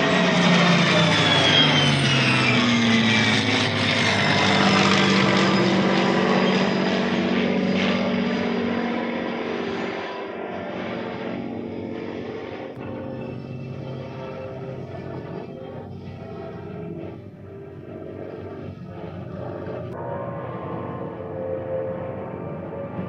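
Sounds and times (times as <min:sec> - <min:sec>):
jet turbofan whine passing: 0:00.0 - 0:23.0
piston aircraft engine passing: 0:00.0 - 0:23.0.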